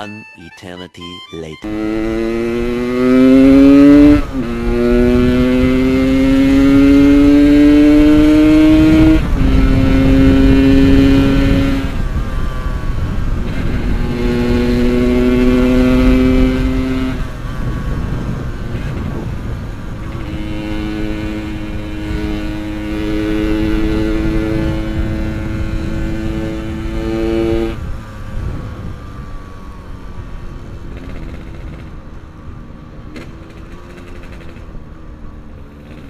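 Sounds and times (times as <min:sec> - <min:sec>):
two-stroke motorcycle engine revving: 0:01.6 - 0:28.9, 0:30.1 - 0:32.2, 0:33.1 - 0:34.9, 0:35.5 - 0:36.0.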